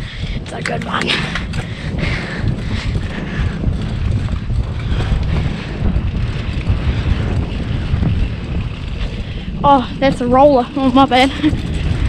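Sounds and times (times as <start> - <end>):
bike rumbling over trail: 0.0 - 12.0
wind rumble on microphone: 0.0 - 12.0.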